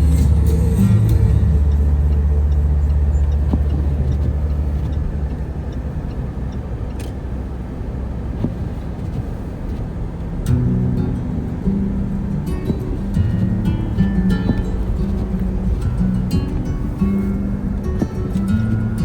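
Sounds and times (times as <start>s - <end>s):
motor vehicle rumbling: 0.0s - 19.0s.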